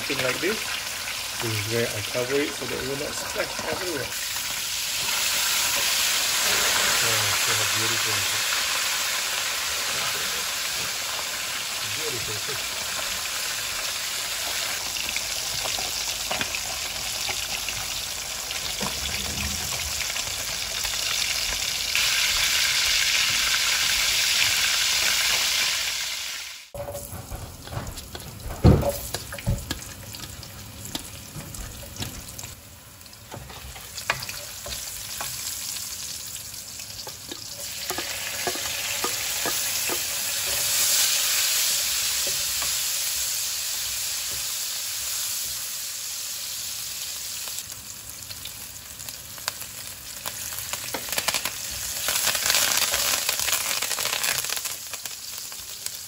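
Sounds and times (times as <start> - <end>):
fish deep-frying in oil: 0.0 - 56.0.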